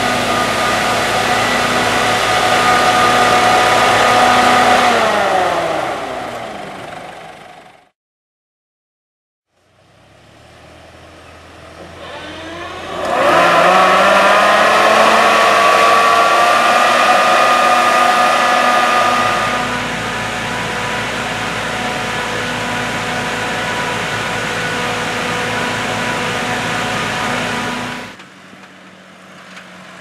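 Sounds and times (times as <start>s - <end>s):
sprayer blower whine: 0.0s - 7.8s, 11.7s - 28.2s
tractor engine running: 0.0s - 7.9s, 9.9s - 30.0s.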